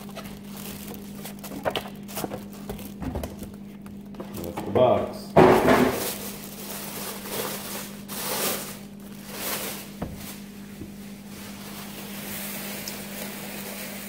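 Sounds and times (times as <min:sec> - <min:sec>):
plastic bag crinkling: 0:00.0 - 0:04.6, 0:05.7 - 0:10.6, 0:11.2 - 0:14.0
steady low hum: 0:00.0 - 0:14.0.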